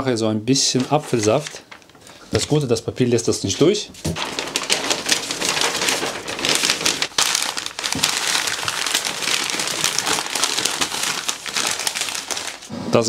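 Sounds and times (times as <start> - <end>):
paper crinkling and rustling: 0.6 - 12.7.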